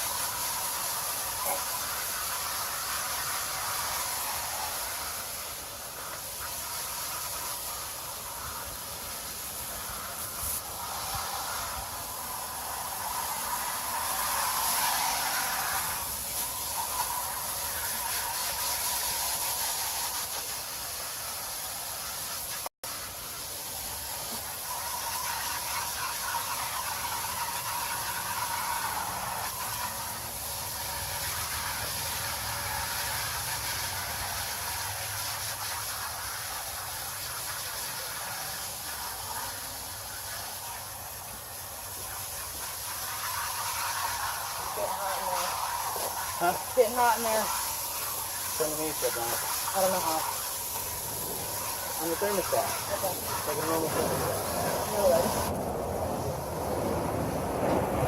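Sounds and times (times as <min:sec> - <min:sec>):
garden hose spraying water: 0:00.0 - 0:58.0.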